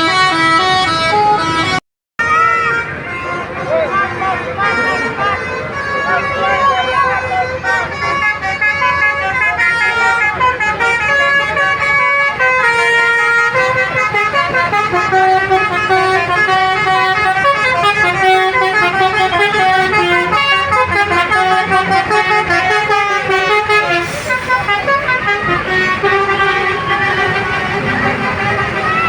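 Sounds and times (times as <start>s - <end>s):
multi-tone bus horn melody: 0.0s - 29.0s.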